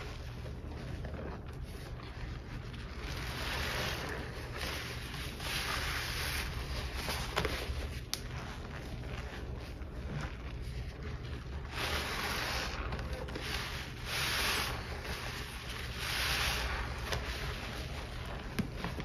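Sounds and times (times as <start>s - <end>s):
sponge squelching in suds: 0.0s - 19.0s.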